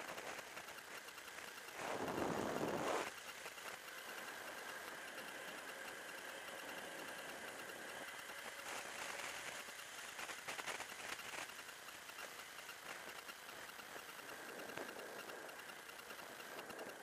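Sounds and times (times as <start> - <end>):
faint whine: 0.0 - 17.0
motorcycle engine running: 0.0 - 17.0.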